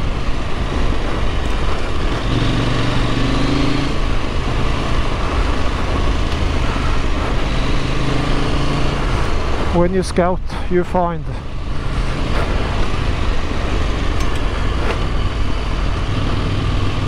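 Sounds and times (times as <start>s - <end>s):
motorcycle engine running: 0.0s - 9.8s, 10.8s - 17.0s
wind rush: 0.0s - 17.0s.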